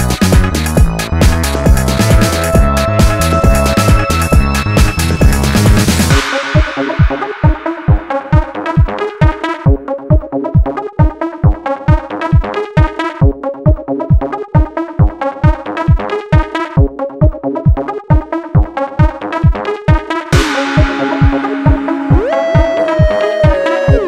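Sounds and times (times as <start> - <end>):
electronic dance music: 0.0 - 24.0.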